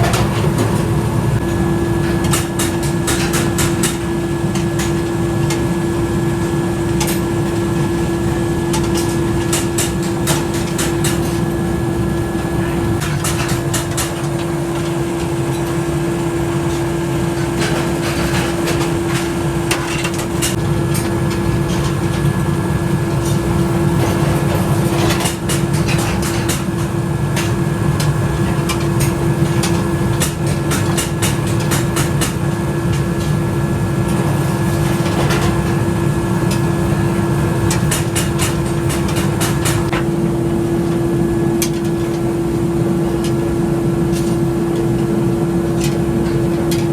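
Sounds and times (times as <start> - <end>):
workshop machinery humming: 0.0 - 46.9.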